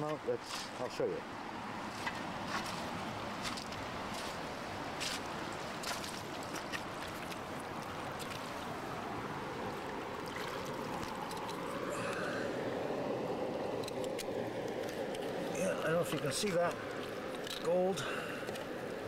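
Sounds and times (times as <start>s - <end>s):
river water rushing: 0.6s - 19.0s.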